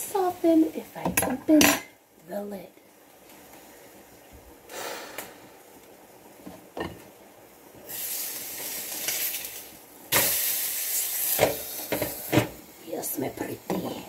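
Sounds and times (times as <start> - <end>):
pot boiling and hissing: 0.0 - 14.0.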